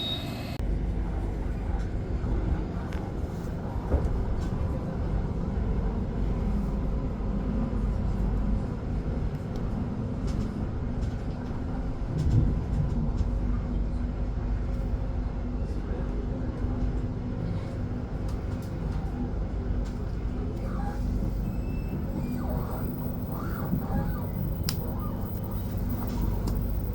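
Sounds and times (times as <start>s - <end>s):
train rumble from inside carriage: 0.0s - 26.9s.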